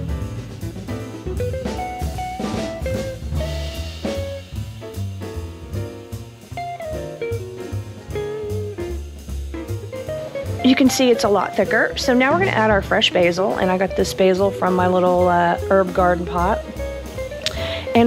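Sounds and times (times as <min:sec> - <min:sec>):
jazzy background music: 0:00.0 - 0:18.0.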